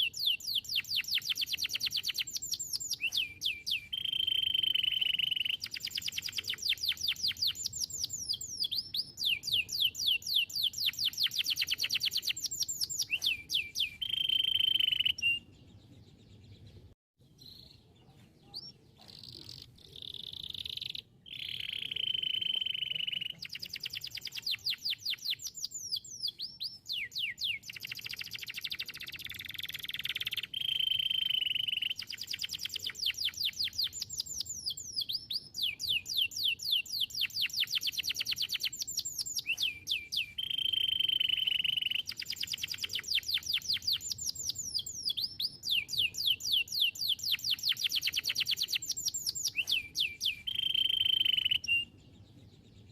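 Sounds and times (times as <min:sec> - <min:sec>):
canary held whistle: 0:00.0 - 0:15.5, 0:20.4 - 0:51.9
canary singing fast trills: 0:00.0 - 0:52.9.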